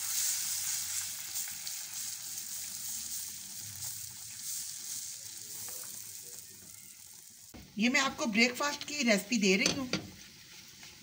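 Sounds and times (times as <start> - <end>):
eggs sizzling in butter: 0.0 - 11.0.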